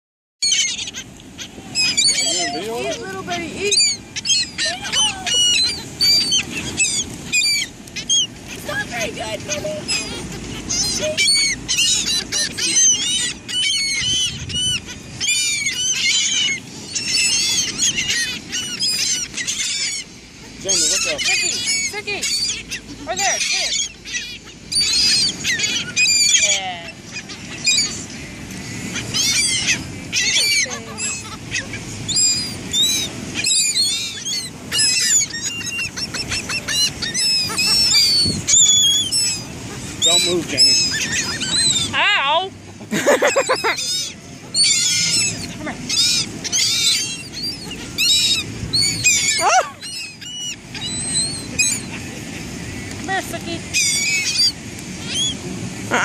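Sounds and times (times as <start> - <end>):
gulls squawking: 0.4 - 56.0
low steady rush: 0.7 - 56.0.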